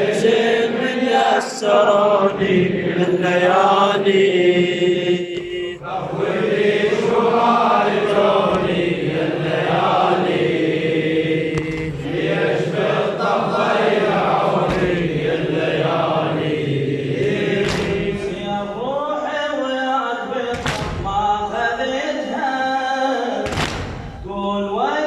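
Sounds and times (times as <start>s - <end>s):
man chanting unaccompanied: 0.0s - 10.5s, 11.6s - 23.5s.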